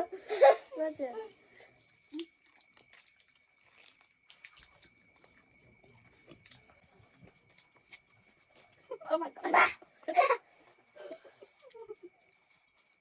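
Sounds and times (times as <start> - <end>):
chewing and crunching food: 1.4 - 9.1, 9.8 - 13.0.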